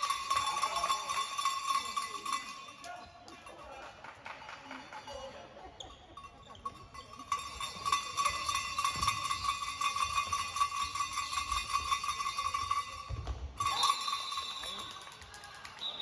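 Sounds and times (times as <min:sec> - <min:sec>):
bell ringing with rattle: 0:00.0 - 0:16.0.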